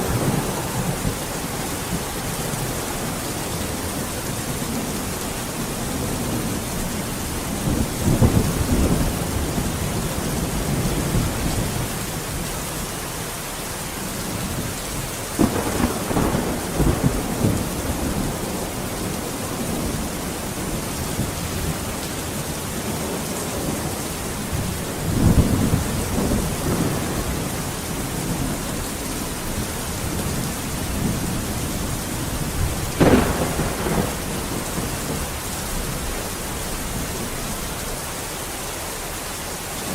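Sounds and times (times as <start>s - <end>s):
thunder rumbling: 0.0s - 12.7s, 14.1s - 38.0s
rain hissing: 0.0s - 39.9s.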